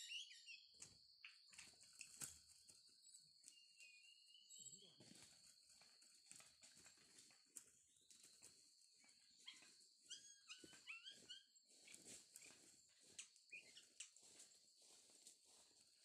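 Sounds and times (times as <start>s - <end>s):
faint forest background: 0.0s - 16.0s.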